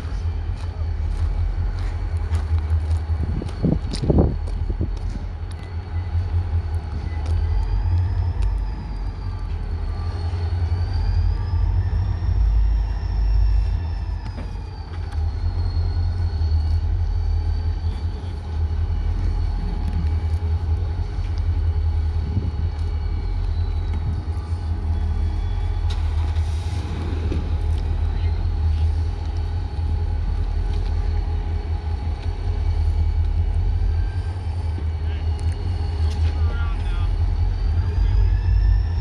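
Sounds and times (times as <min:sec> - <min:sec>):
locomotive deep rumble: 0:00.0 - 0:39.0.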